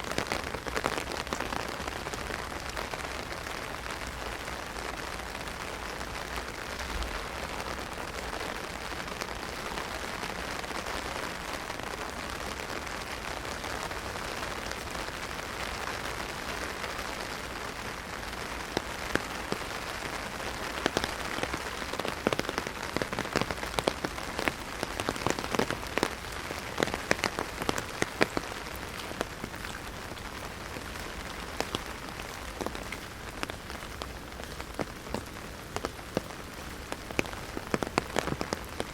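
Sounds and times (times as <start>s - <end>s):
heavy rain on an umbrella: 0.0s - 38.9s.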